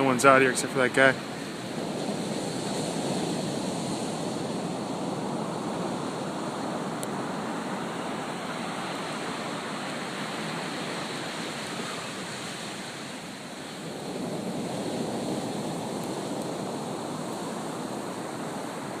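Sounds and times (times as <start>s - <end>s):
ocean surf breaking: 0.0s - 19.0s
wind: 0.0s - 19.0s.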